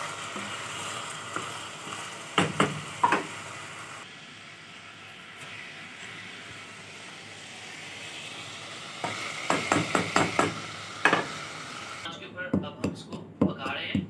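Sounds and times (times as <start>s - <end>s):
chicken frying in hot oil: 0.0s - 12.1s.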